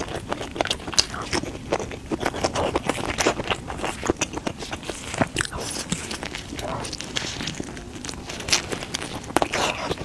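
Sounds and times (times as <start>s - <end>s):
chewing and lip-smacking: 0.0s - 10.0s.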